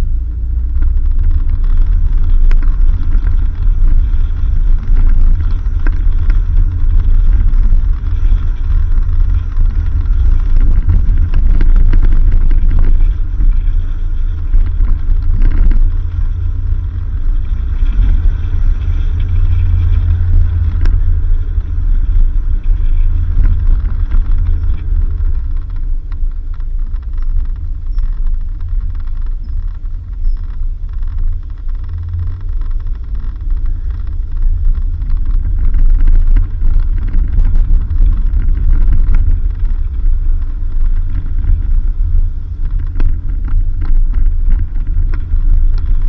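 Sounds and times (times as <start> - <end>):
vehicle engine and tyres rumbling: 0.0 - 46.0.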